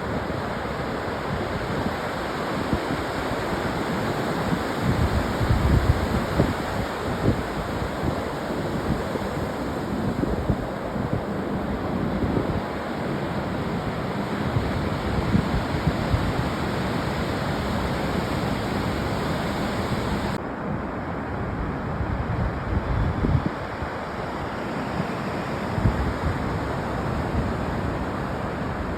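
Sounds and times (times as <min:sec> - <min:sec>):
wind buffeting microphone: 0:00.0 - 0:20.4, 0:21.8 - 0:24.2, 0:25.6 - 0:28.9
ocean surf washing in: 0:00.0 - 0:28.9.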